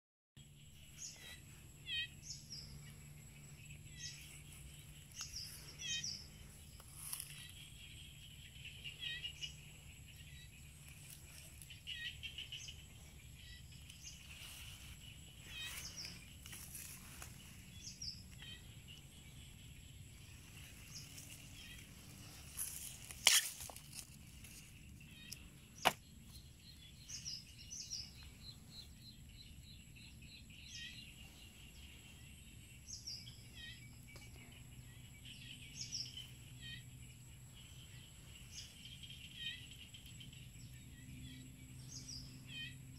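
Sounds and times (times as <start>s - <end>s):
small birds chirping: 0.4s - 42.9s
steady low hum: 0.4s - 42.9s.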